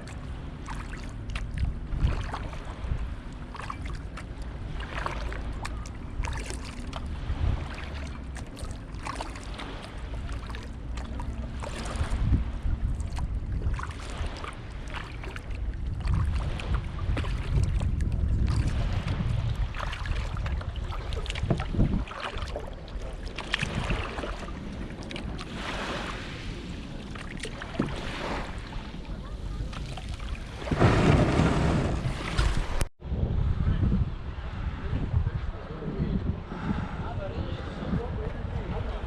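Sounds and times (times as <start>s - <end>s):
kayak paddle splashing water: 0.0s - 32.9s
water lapping: 0.0s - 32.9s
wind rumble on microphone: 0.0s - 39.0s.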